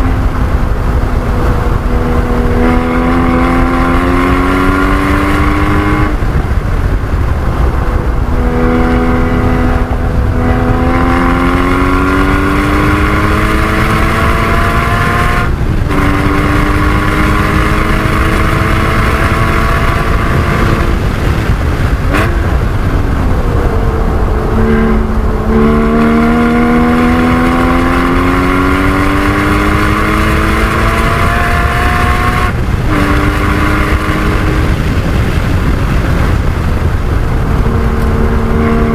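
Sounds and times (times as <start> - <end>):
car engine accelerating: 0.0 - 38.9
tyre and wind noise: 0.0 - 38.9.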